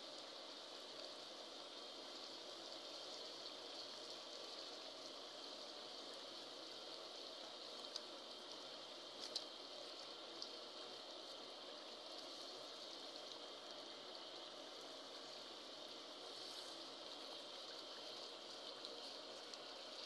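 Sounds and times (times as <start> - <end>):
faint sizzling and bubbling: 0.0 - 20.0.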